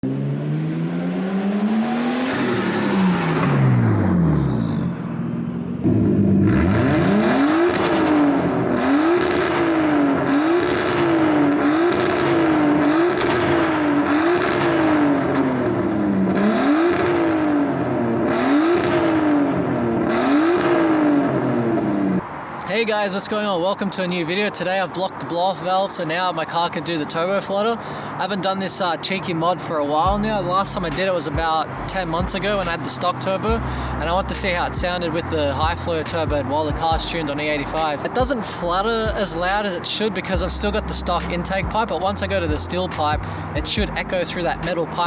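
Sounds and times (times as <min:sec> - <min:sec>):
car engine revving: 0:00.0 - 0:22.6, 0:30.0 - 0:45.0.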